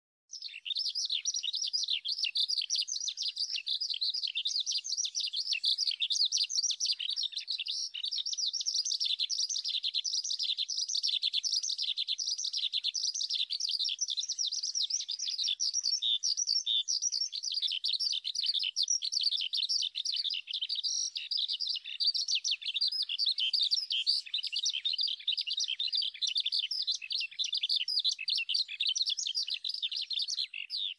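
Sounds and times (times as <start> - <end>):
skylark singing: 0.3 - 30.9.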